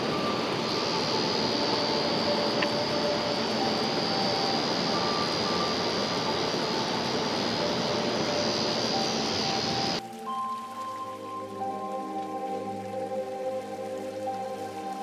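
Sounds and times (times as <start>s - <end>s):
thin high whine: 0.0s - 15.0s
underwater stream rushing: 0.0s - 15.0s.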